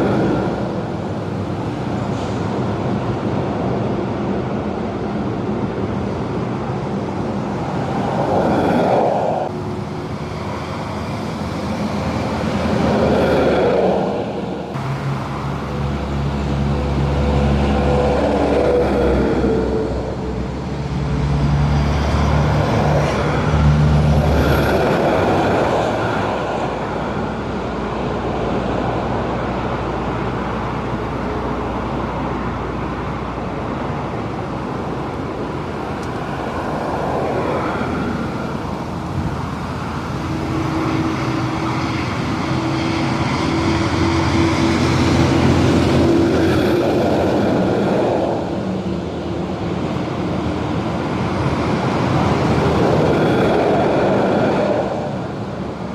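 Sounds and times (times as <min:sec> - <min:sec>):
steady vehicle whine: 0:00.0 - 0:55.9
traffic passing on bridge: 0:00.0 - 0:55.9.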